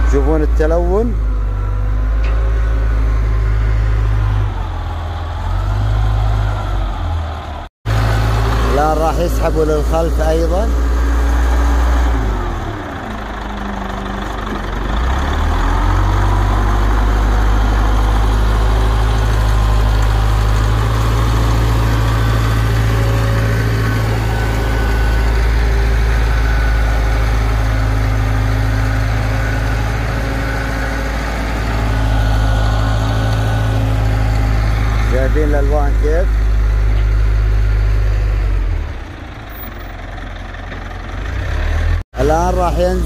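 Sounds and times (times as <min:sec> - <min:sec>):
diesel loader engine under load: 0:00.0 - 0:43.0.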